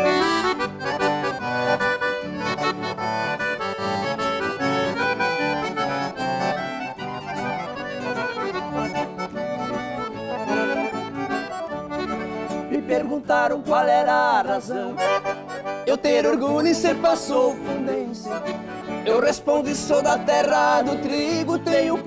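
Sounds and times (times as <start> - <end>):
accordion playing: 0.0 - 22.0
rhythmic accompaniment: 0.0 - 22.0.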